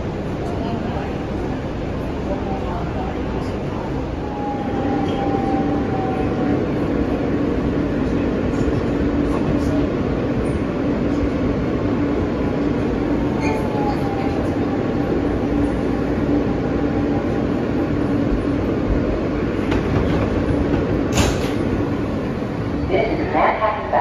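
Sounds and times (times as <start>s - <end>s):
subway car wheels rumbling on rail: 0.0s - 24.0s.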